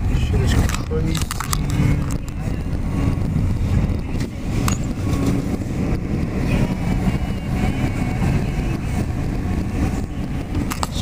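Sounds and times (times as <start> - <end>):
car engine rumble from inside: 0.0 - 11.0.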